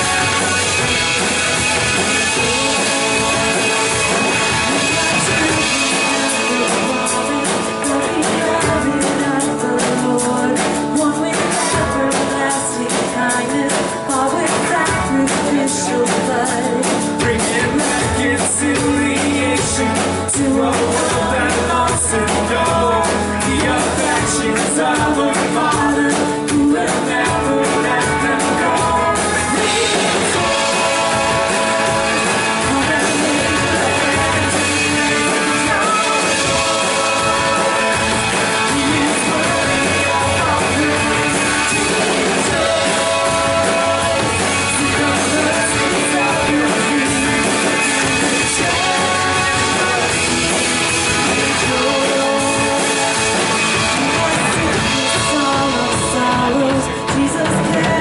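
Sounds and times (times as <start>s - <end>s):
person singing: 0.0s - 58.0s
rock band with guitars and drums: 0.0s - 58.0s.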